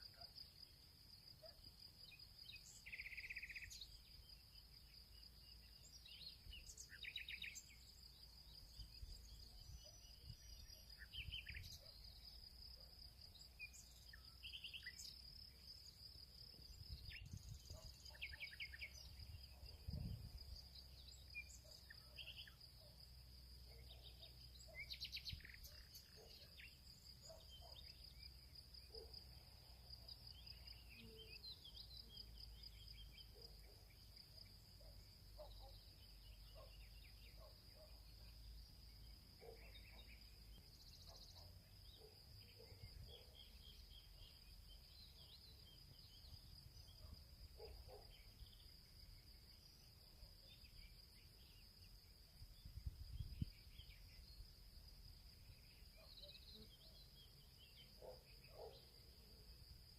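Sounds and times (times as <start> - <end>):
bird calls and chirps: 0.0 - 23.0, 23.6 - 54.5, 55.3 - 59.5.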